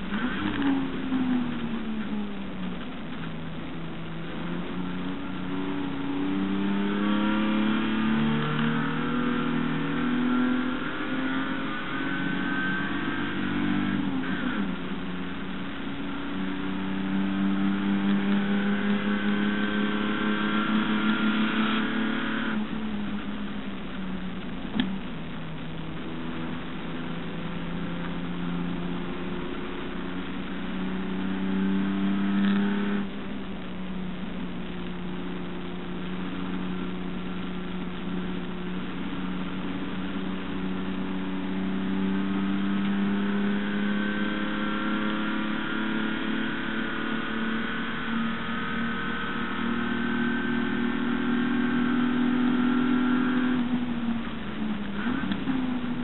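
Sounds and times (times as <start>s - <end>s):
race car engine pulling hard: 0.0s - 33.6s, 36.1s - 56.0s.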